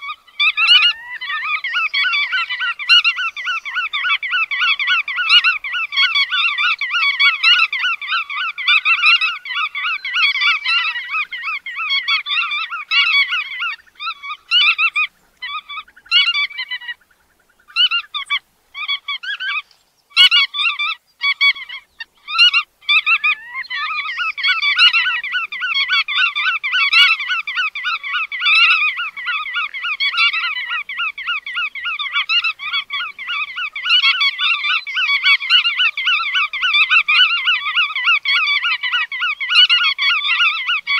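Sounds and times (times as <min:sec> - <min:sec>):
shorebirds calling rapidly: 0:00.0 - 0:40.9.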